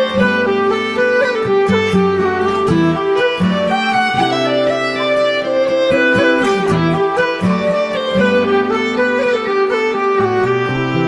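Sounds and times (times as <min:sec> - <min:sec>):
instrumental music with plucked notes: 0:00.0 - 0:11.0.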